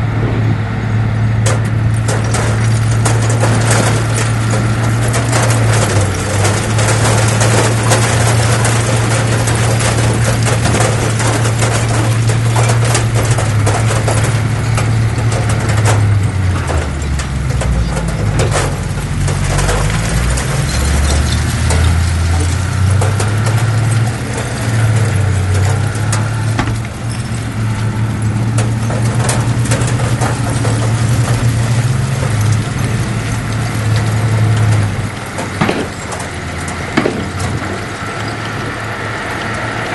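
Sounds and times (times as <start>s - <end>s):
bulldozer diesel engine running: 0.0s - 39.9s
clanking and rattling: 1.4s - 38.8s.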